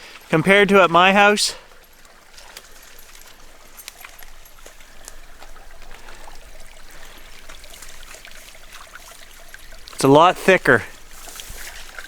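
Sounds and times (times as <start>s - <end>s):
shallow water trickling: 0.0s - 12.0s
small water splashes: 0.0s - 12.0s.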